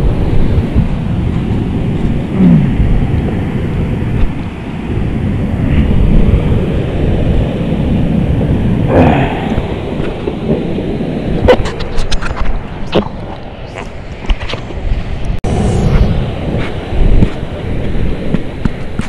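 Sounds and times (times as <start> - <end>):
choppy surf: 0.0 - 19.0
wind buffeting the microphone: 0.0 - 19.0.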